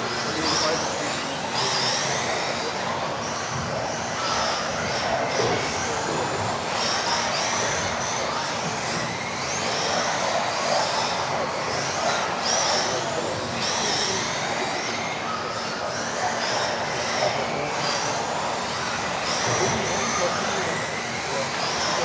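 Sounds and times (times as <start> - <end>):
rc car motors whining: 0.0 - 22.0.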